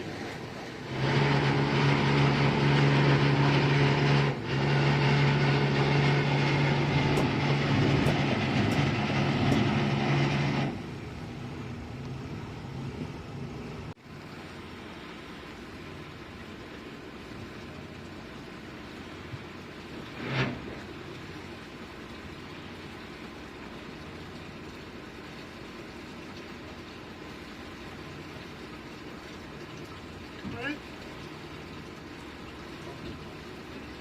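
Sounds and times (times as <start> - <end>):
quiet rumble: 0.0 - 33.9
boat engine humming: 0.0 - 34.0.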